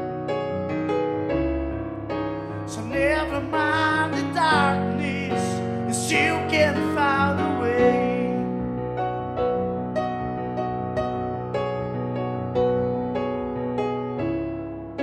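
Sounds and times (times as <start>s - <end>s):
electric piano chords: 0.0s - 15.0s.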